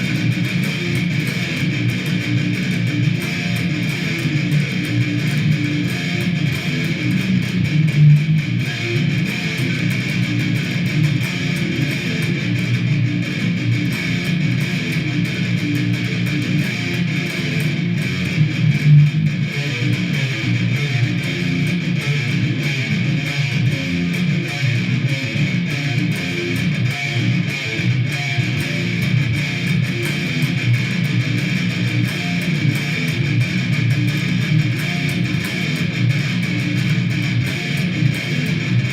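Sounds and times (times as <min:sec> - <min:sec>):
strummed guitar song: 0:00.0 - 0:38.9.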